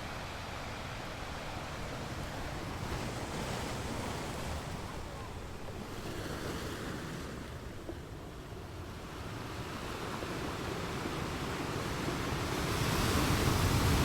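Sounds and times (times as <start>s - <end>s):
sea waves washing on beach: 0.0s - 14.0s.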